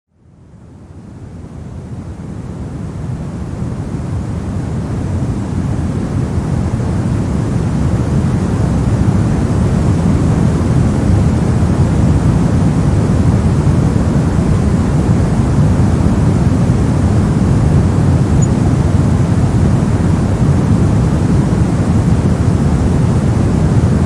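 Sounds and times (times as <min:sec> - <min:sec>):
white noise: 0:00.1 - 0:24.0.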